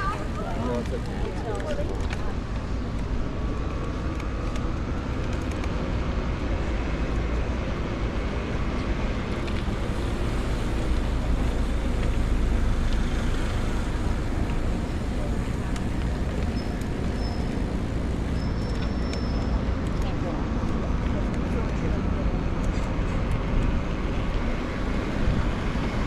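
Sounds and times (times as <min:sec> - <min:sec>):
city street traffic rumble: 0:00.0 - 0:26.0.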